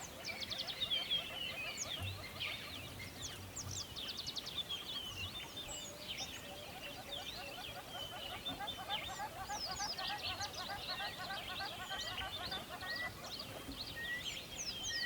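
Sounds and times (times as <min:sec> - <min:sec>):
low bird calls: 0:00.0 - 0:15.0
songbirds chirping and singing: 0:00.0 - 0:15.0.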